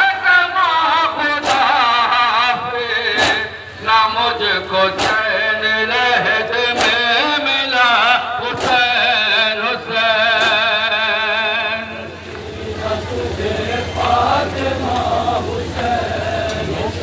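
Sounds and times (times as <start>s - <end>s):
men chanting a lament: 0.0s - 17.0s
crowd beating chests in unison: 0.4s - 17.0s.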